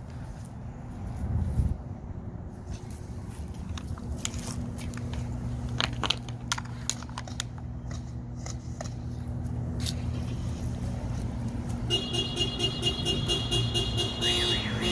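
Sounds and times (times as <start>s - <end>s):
vehicle engine humming: 0.0s - 14.9s.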